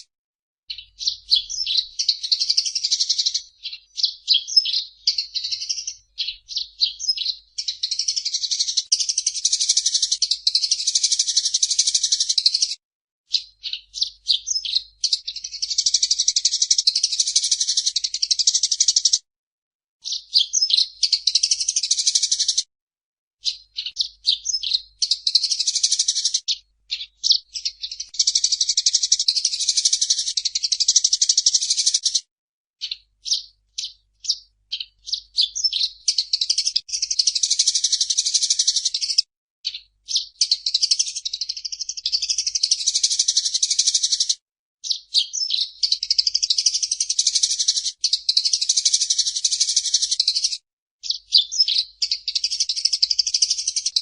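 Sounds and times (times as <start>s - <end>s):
sparrow chattering: 0.7s - 19.2s, 20.0s - 22.6s, 23.4s - 32.2s, 32.8s - 54.0s.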